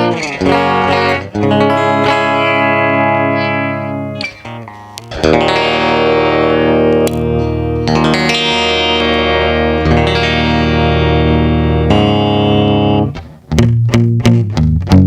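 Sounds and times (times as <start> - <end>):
short electric guitar notes: 0.0 - 13.7
electric guitar chords ringing: 0.0 - 15.0.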